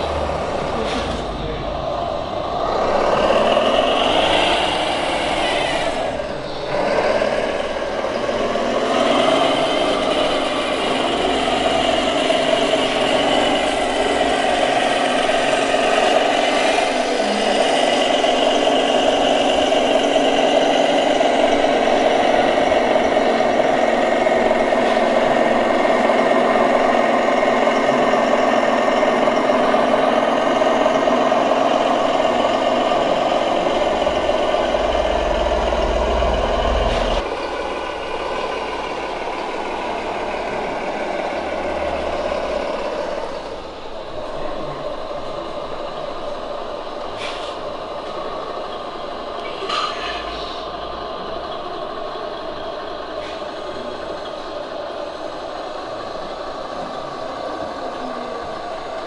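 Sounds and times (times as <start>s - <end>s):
rc truck motor droning: 0.0s - 59.0s.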